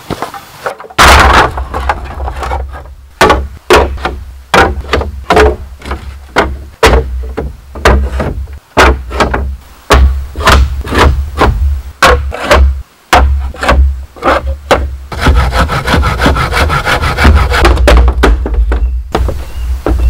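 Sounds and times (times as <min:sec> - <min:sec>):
blade chopping bamboo: 0:00.0 - 0:20.0.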